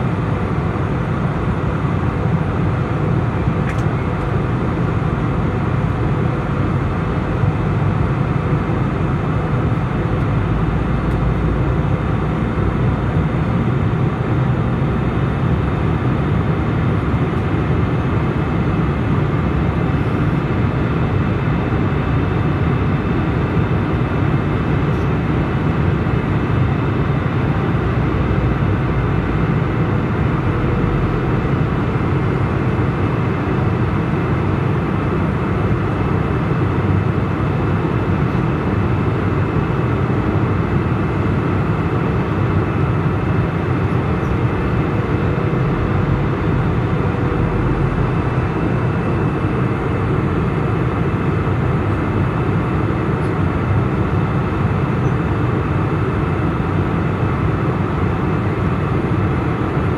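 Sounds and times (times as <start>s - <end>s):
jet airliner cabin roar: 0.0s - 59.9s.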